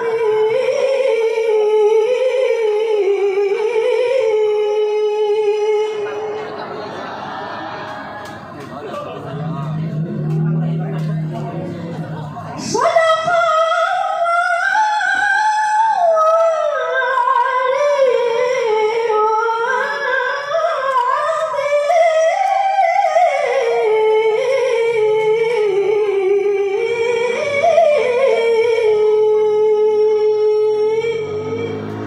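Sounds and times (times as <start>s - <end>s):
woman chanting melodically: 0.0s - 6.4s, 9.7s - 32.0s.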